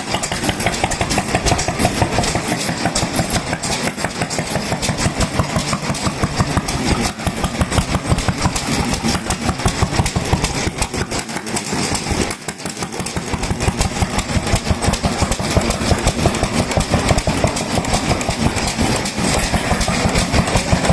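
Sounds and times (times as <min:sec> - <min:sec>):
stationary engines chuffing: 0:00.0 - 0:20.9.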